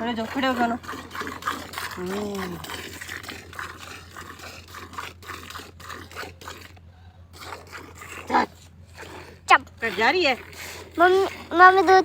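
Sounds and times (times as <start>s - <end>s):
milk squirting into a pail: 0.0s - 12.0s.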